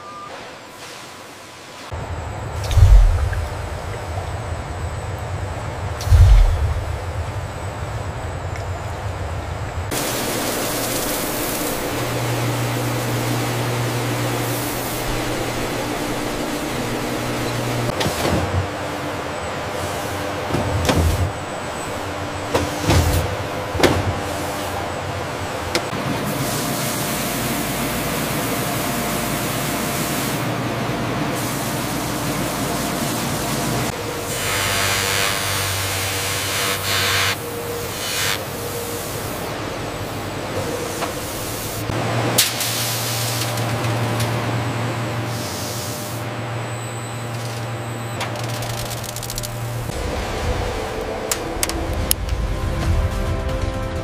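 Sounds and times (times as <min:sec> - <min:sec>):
low machine hum: 0:01.9 - 0:36.0, 0:43.5 - 0:53.4.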